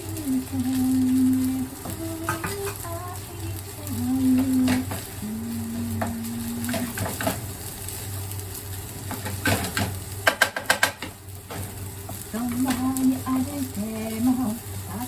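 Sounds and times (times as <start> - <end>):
rice sizzling in a frying pan: 0.0 - 15.0.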